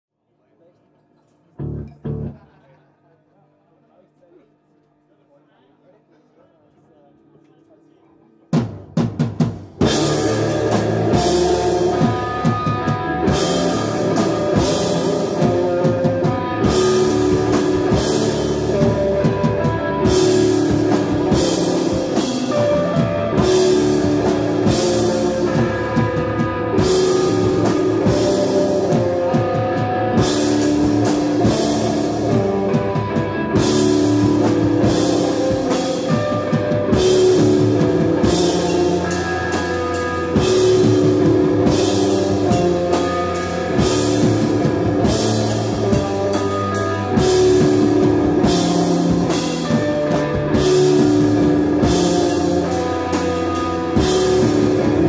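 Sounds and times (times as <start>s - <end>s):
rock band playing: 1.6s - 2.4s, 8.5s - 55.0s
drum hits: 8.6s - 55.0s.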